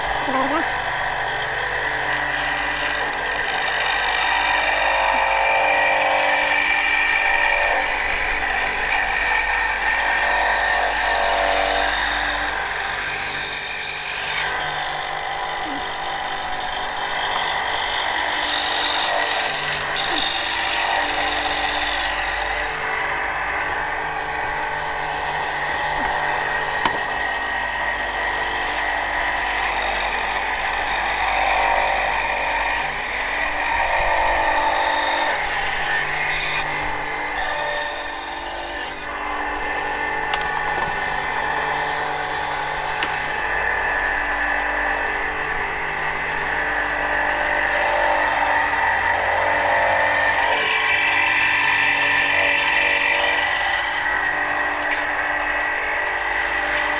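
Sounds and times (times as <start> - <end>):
band saw cutting wood: 0.0 - 56.9.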